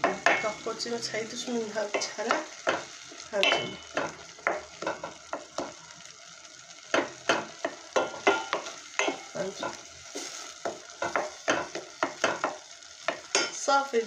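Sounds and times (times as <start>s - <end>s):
oil sizzling: 0.0s - 14.0s.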